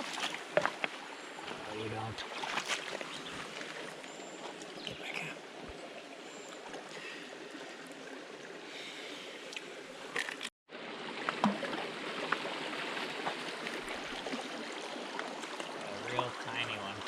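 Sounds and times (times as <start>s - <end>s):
river water flowing: 0.0s - 17.0s
small water splashes: 0.0s - 17.0s.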